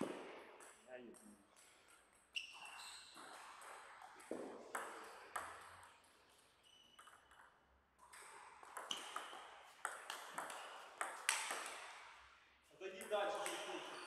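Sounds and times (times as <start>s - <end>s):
table tennis ball hits and bounces: 0.0s - 12.3s, 12.9s - 14.0s.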